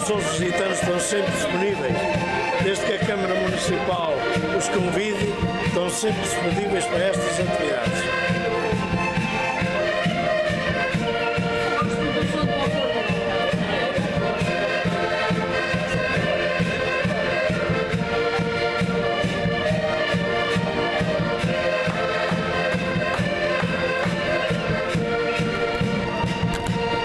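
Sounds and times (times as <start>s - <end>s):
accordions playing a folk tune: 0.0s - 27.0s.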